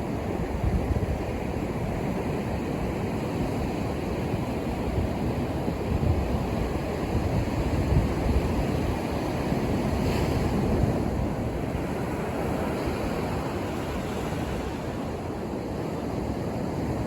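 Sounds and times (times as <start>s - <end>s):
ocean waves on a beach: 0.0s - 17.0s
wind gusts on microphone: 0.0s - 17.0s.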